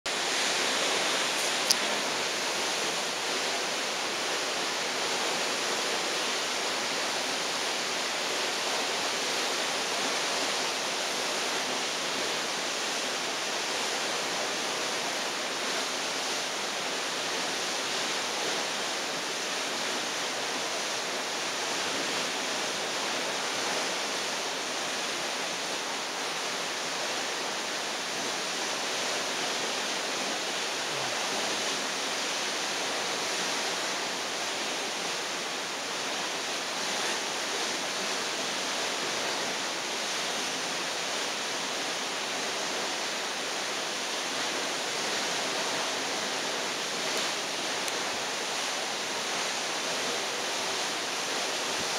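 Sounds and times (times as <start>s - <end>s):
steady rushing hiss: 0.1s - 51.9s.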